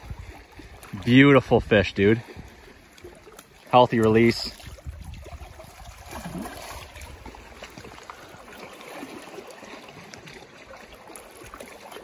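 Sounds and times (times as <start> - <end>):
water lapping around rocks: 0.0 - 12.0.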